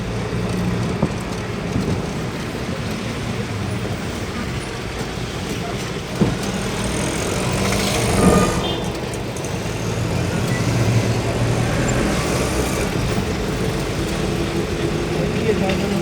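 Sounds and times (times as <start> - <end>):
road noise on rough road: 0.0 - 16.0
vehicle engine hum: 0.0 - 16.0.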